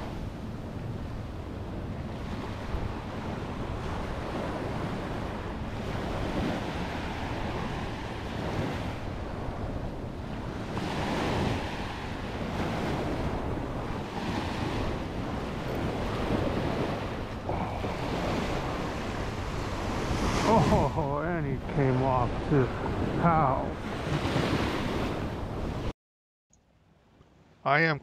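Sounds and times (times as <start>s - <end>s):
ocean surf breaking on beach: 0.0s - 25.9s
wind buffeting microphone: 0.0s - 25.9s.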